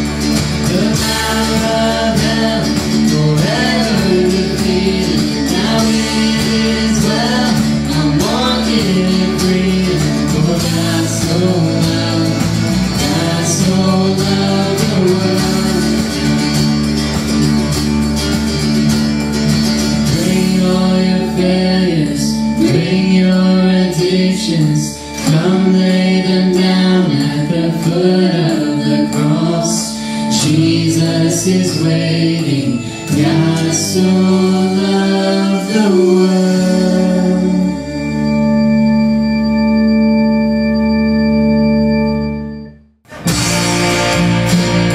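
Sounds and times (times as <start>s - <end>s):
person singing: 0.0s - 16.9s, 20.0s - 39.6s
guitar accompaniment: 0.0s - 44.9s.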